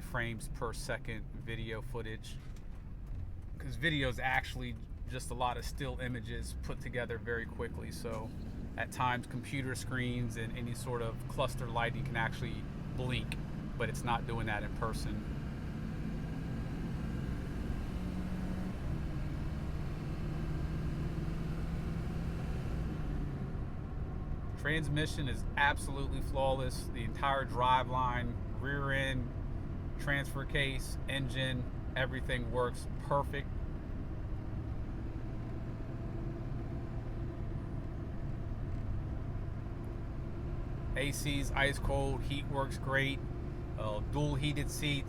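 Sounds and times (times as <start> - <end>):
diesel truck engine drone: 0.0 - 45.0
road noise: 0.0 - 45.0.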